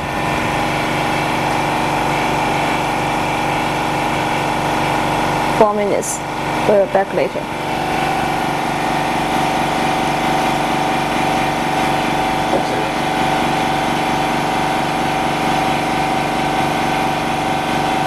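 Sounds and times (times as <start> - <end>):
machinery motor hum: 0.0 - 18.0.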